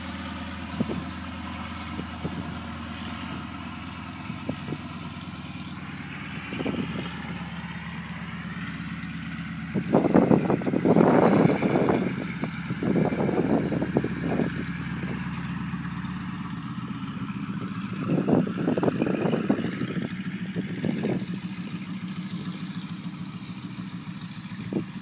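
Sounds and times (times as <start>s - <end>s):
radial aircraft engine running: 0.0s - 25.0s.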